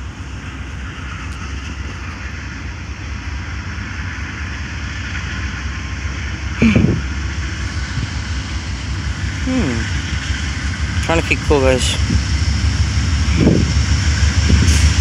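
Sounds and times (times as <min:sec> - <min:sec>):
train rumbling on tracks: 0:00.0 - 0:15.0.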